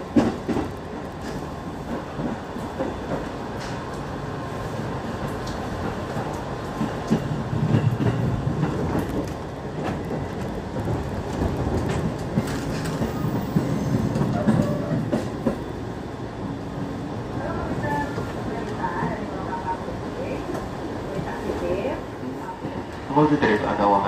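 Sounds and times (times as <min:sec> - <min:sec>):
train wheels rolling on rails: 0:00.0 - 0:24.0.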